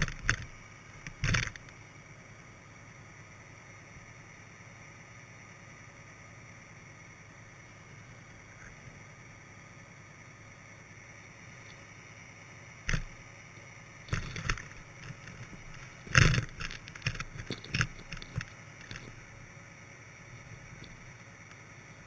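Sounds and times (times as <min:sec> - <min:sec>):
low underwater hiss: 0:00.0 - 0:22.0.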